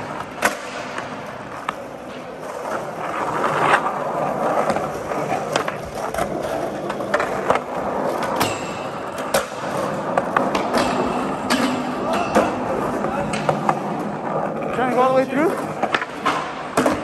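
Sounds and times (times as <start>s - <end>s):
skateboard clacks: 0.0s - 17.0s
skateboard wheels rolling on concrete: 0.0s - 17.0s.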